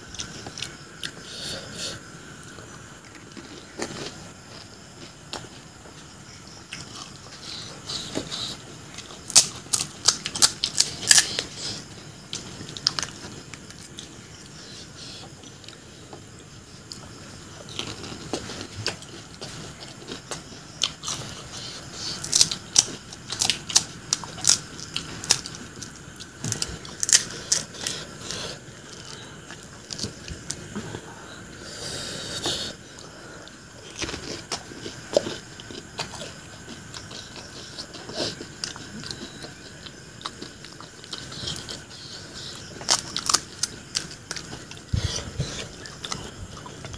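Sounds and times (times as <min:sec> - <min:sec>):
crunching and chewing crisp food: 0:00.0 - 0:46.9.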